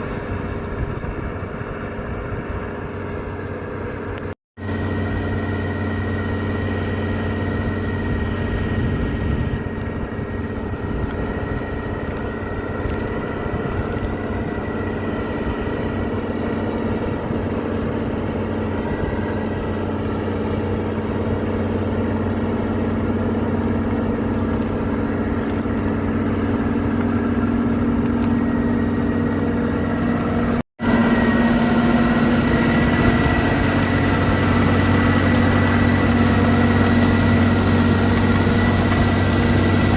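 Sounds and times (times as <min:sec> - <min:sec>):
combine harvester engine drone: 0:00.0 - 0:39.9
thin high whine: 0:00.0 - 0:39.9.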